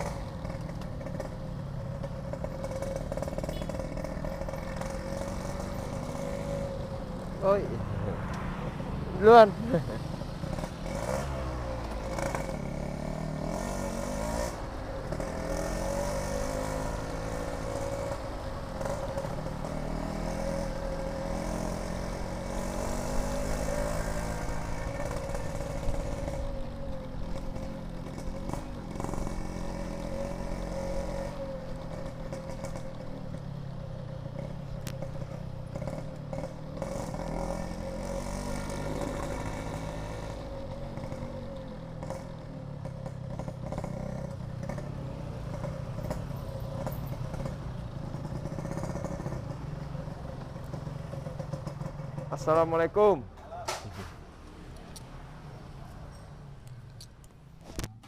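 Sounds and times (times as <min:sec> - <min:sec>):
two-stroke motorcycle engine revving: 0:00.0 - 0:08.3, 0:08.9 - 0:53.2.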